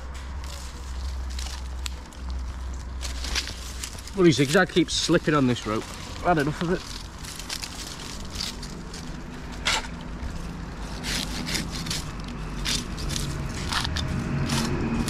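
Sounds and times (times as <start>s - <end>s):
rope scraping against bark: 0.4s - 15.0s.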